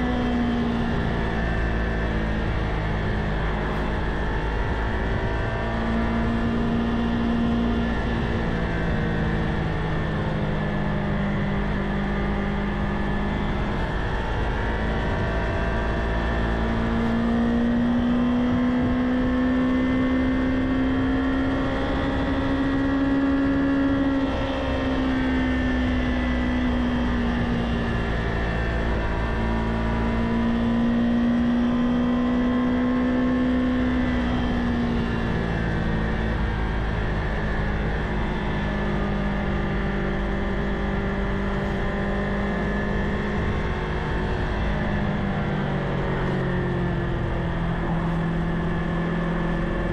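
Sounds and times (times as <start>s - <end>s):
motorcycle engine running: 0.0s - 49.9s
road rumble: 0.0s - 49.9s
wind: 0.0s - 49.9s.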